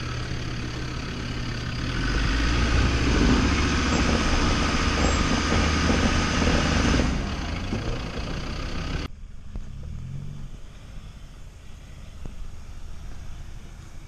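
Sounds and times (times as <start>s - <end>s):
distant off-road engines humming: 0.0s - 14.0s
off-road vehicle engine running: 0.0s - 14.0s.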